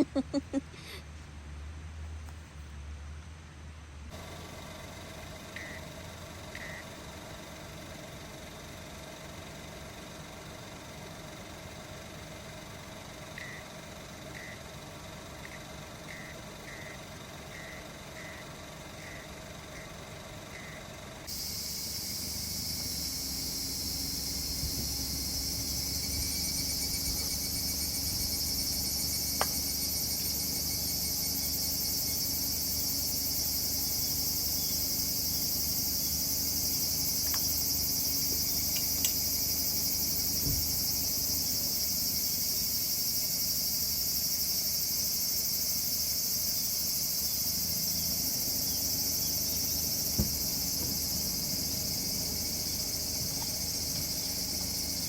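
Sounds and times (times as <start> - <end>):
crickets chirping: 4.1 - 55.0.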